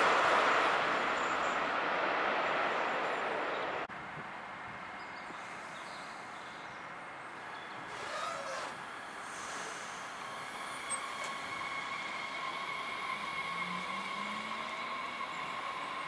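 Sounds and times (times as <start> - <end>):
electric train hum: 0.0 - 8.0, 8.6 - 16.0.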